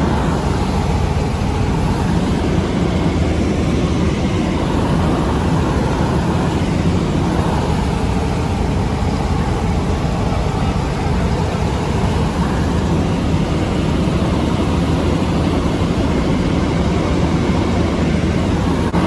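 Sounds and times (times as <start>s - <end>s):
helicopter engine and rotor drone: 0.0s - 19.0s.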